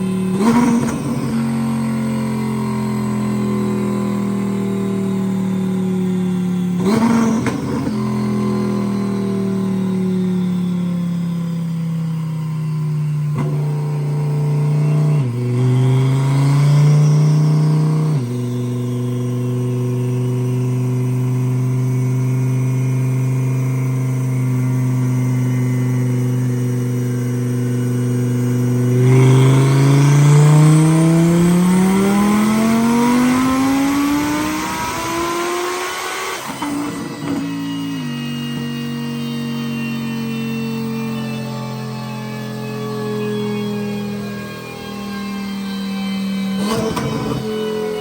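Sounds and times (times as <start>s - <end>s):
car engine revving on dyno: 0.0s - 48.0s.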